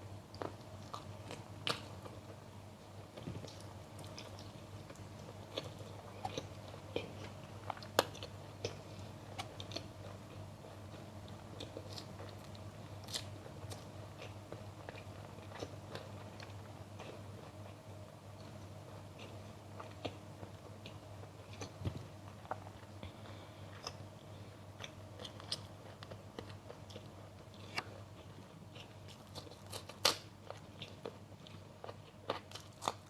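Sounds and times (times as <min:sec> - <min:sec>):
person chewing crunchy food: 0:00.3 - 0:02.4, 0:03.0 - 0:17.8, 0:18.4 - 0:33.0.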